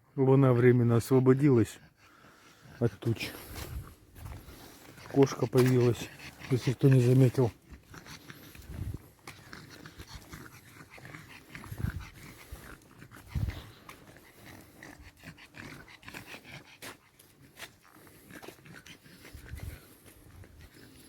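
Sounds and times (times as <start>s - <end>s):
outdoor noise: 0.0s - 21.0s.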